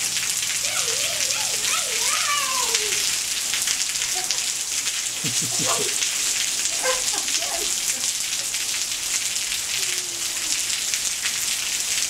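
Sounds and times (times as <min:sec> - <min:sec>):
rain on concrete and gravel: 0:00.0 - 0:12.0.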